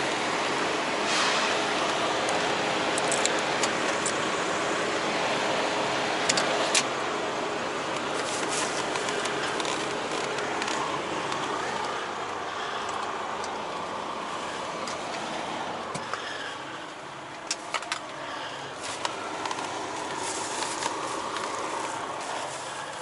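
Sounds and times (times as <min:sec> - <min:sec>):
vehicle running: 0:00.0 - 0:23.0.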